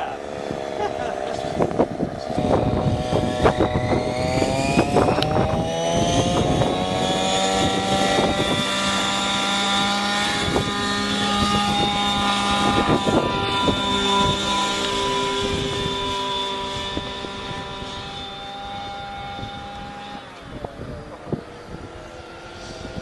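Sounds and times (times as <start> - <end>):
model helicopter whine: 0.0 - 23.0.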